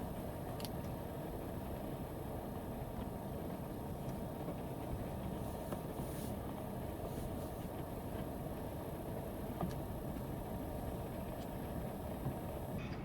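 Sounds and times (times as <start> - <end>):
heavy rain drumming on van roof: 0.0 - 12.8.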